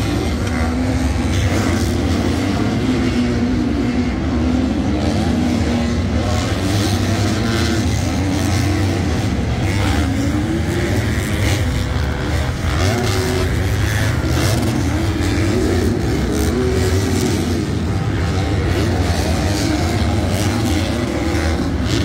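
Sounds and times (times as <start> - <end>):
motorbike engines revving: 0.0 - 22.0.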